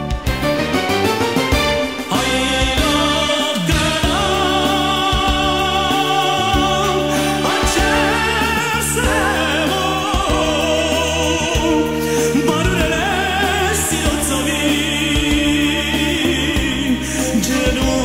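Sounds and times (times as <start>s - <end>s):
instrumental accompaniment with beat: 0.0s - 18.0s
man singing into a microphone: 2.1s - 18.0s.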